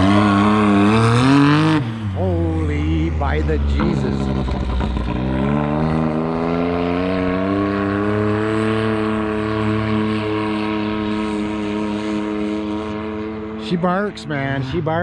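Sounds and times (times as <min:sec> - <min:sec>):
turbo engine revving: 0:00.0 - 0:15.0.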